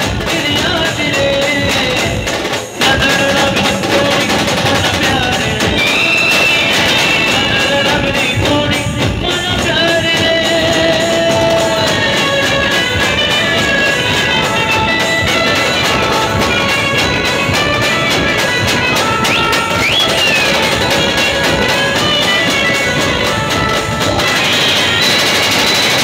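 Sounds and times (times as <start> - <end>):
fast percussion: 0.0 - 26.0
live band music: 0.0 - 26.0.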